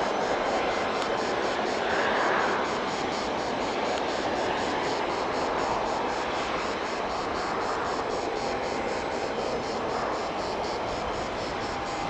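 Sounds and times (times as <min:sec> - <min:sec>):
jet engine hiss: 0:00.0 - 0:12.0.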